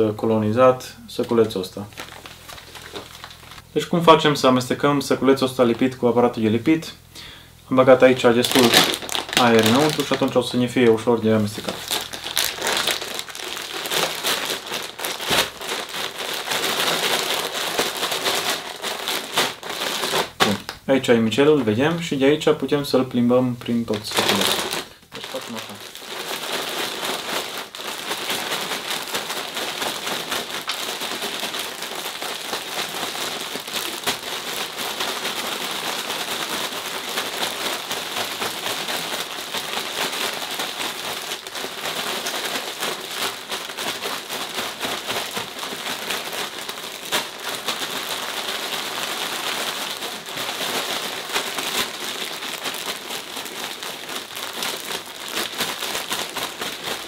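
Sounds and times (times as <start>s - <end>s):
pellets and grain rustling: 0.0s - 57.0s
plastic bag crinkling: 0.0s - 57.0s.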